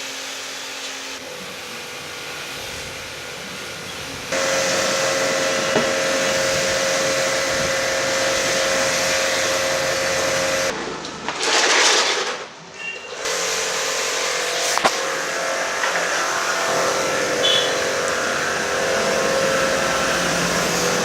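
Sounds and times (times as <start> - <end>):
cleaning machine hiss and hum: 0.0 - 10.7, 13.1 - 21.0.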